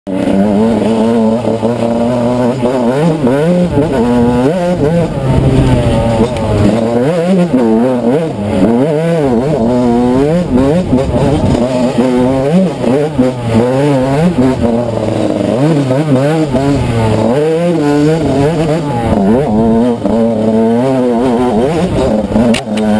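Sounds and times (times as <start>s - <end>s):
off-road motorcycle engine revving: 0.1s - 22.9s.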